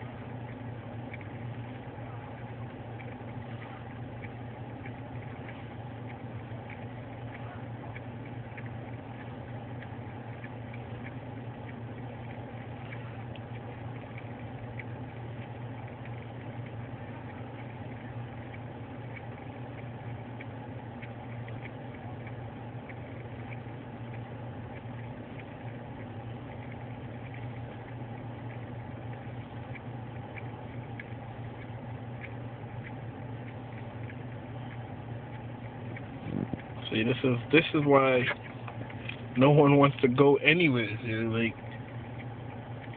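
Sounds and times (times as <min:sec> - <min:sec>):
car engine humming: 0:00.0 - 0:42.9
faint irregular ticks: 0:00.0 - 0:42.9.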